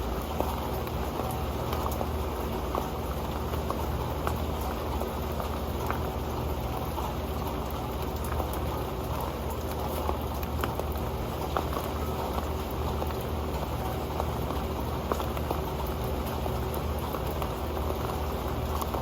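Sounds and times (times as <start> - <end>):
rain on a metal pan: 0.0 - 19.0.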